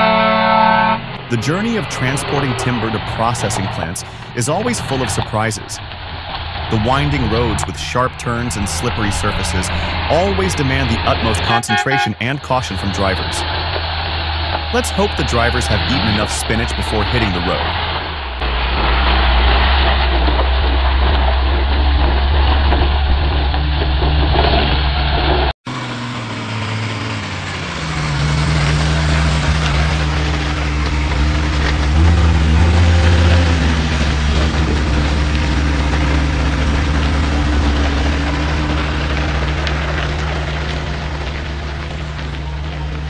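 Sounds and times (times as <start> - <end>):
diesel truck engines running: 0.0 - 43.0.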